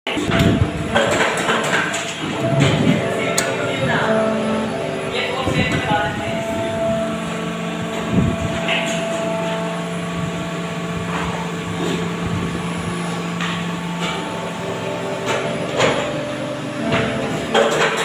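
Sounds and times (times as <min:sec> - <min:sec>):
moulding machine humming: 0:00.1 - 0:18.0.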